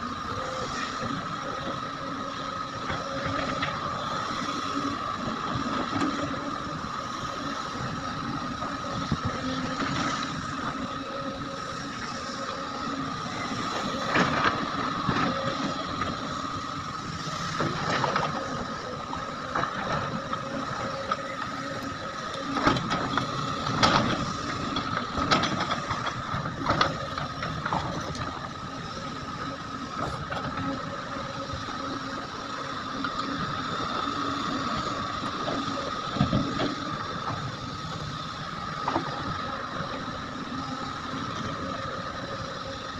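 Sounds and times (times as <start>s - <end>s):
excavator whining: 0.0s - 42.9s.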